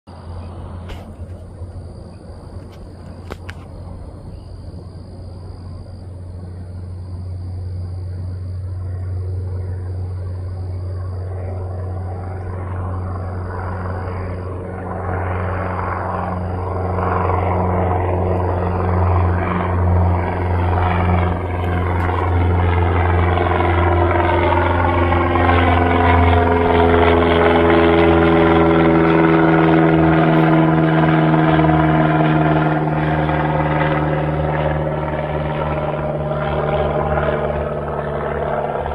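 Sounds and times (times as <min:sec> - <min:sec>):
propeller plane droning overhead: 0:00.1 - 0:38.9.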